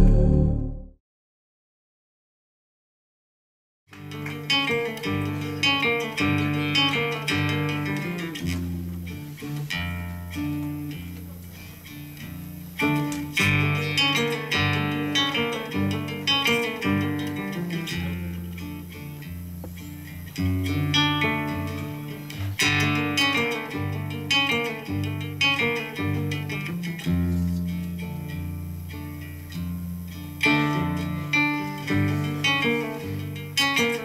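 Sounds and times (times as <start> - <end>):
flamenco acoustic guitar: 3.9 - 34.0.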